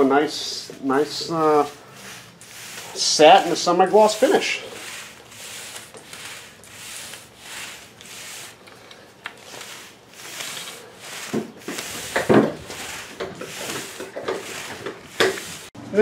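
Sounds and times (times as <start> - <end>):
paint roller swishing on concrete: 0.0 - 15.8.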